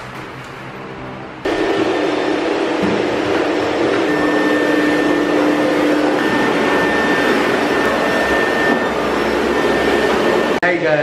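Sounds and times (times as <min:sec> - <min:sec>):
vacuum cleaner running: 0:01.4 - 0:10.6.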